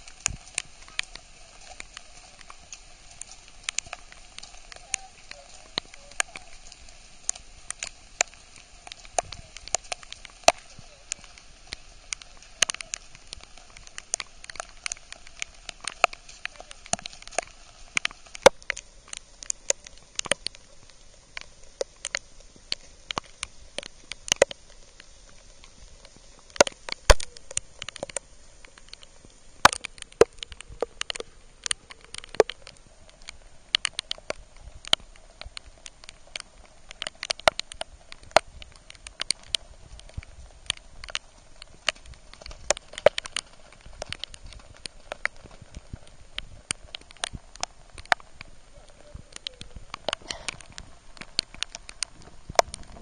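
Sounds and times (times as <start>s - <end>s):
rain hiss: 0.0s - 53.0s
raindrops ticking near microphone: 0.0s - 53.0s.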